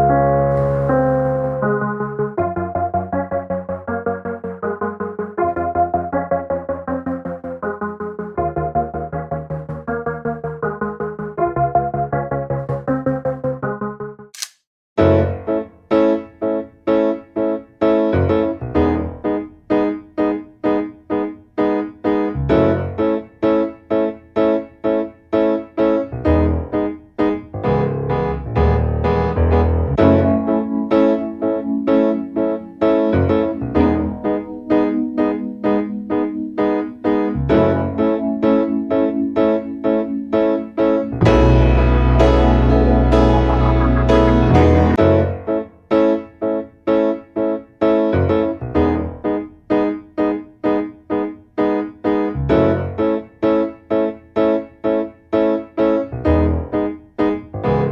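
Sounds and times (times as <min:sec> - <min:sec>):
piano pattern with bass line: 0:00.0 - 0:14.2, 0:16.4 - 0:57.9.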